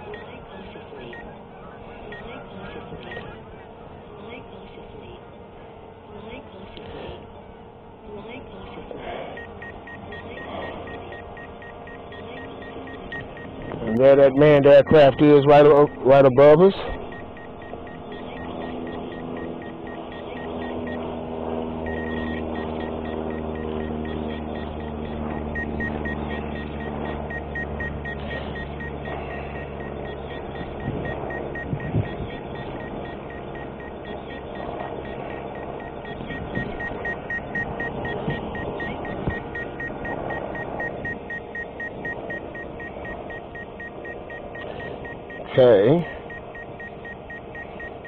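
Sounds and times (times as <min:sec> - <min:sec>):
rapid high beeping: 0:00.0 - 0:03.4, 0:09.2 - 0:48.0
aircraft engine droning overhead: 0:00.0 - 0:48.0
drone propeller hum: 0:00.0 - 0:48.0.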